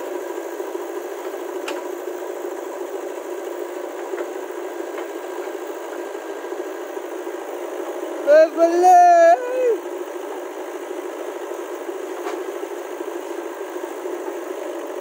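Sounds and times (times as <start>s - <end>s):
backhoe diesel engine running: 0.0s - 15.0s
tractor engine running: 0.0s - 15.0s.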